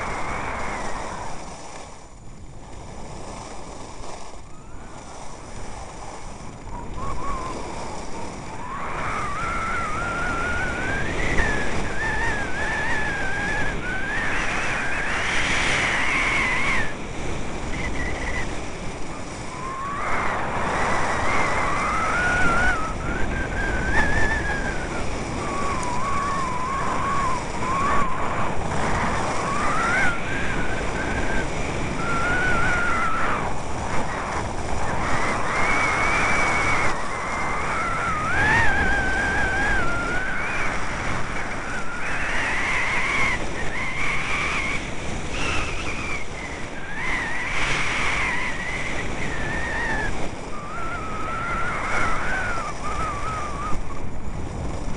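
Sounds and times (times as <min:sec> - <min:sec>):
skis scraping over snow: 0:00.0 - 0:54.9
wind on microphone: 0:00.0 - 0:54.9
thin wavering whistle: 0:06.7 - 0:17.0, 0:17.6 - 0:18.6, 0:19.2 - 0:54.0.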